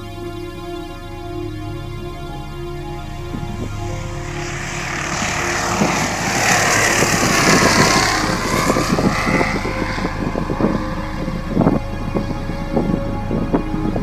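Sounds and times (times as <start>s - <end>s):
light aircraft engine and propeller: 0.1s - 14.0s.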